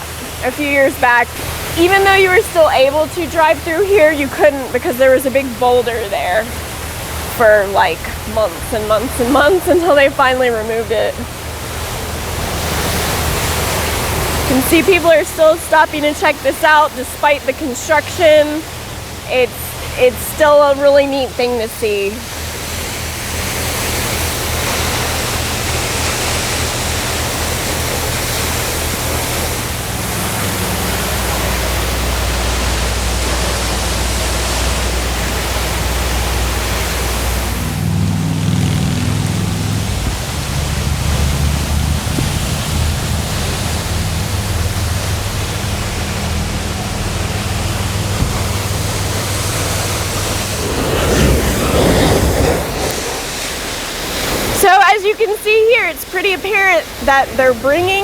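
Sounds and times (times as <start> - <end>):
low engine hum: 0.0 - 54.8
waterfall roaring: 0.0 - 58.0.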